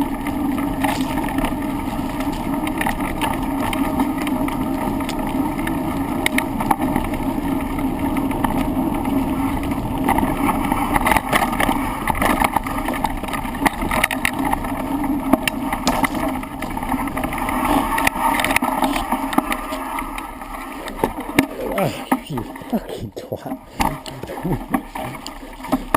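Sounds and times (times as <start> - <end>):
bike knocking and rattling: 0.0 - 21.8, 23.6 - 25.9
trail noise: 0.0 - 25.9.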